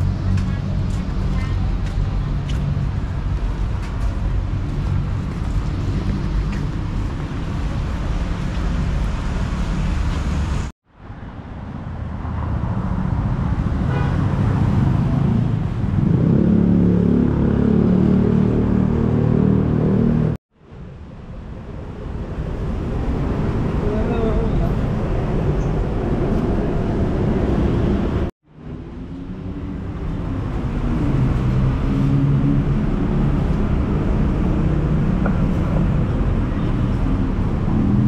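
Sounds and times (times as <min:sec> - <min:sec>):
street traffic: 0:00.0 - 0:38.0.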